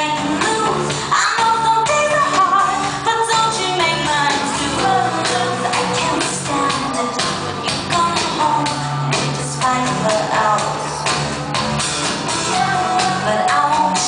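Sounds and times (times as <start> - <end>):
woman singing: 0.0 - 11.2, 12.4 - 14.0
synthesizers: 0.0 - 14.0.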